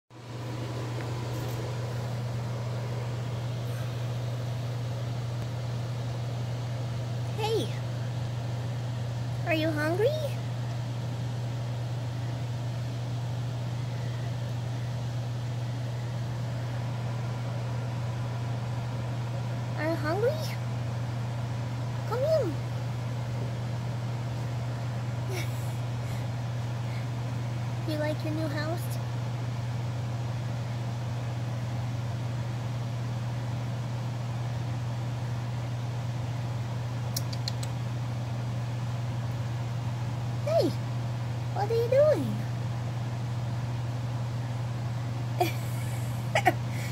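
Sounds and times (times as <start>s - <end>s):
low hum: 0.2s - 46.9s.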